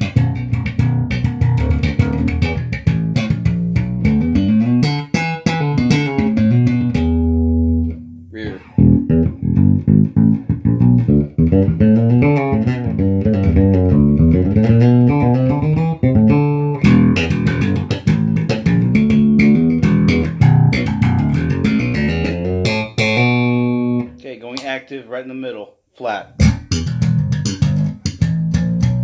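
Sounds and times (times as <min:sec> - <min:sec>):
electric bass plucked notes: 0:00.0 - 0:24.2, 0:26.3 - 0:29.0.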